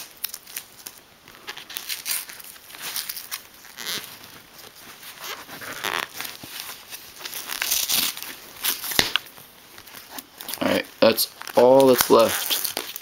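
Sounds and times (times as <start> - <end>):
packing tape rustling and tearing: 0.0 - 13.0.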